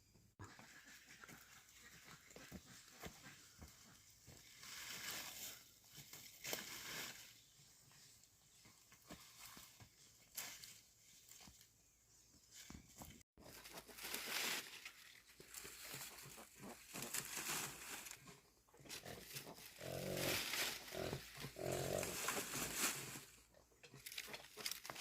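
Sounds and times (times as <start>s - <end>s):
dry brush and leaves crunching: 1.9s - 11.8s, 12.5s - 25.0s.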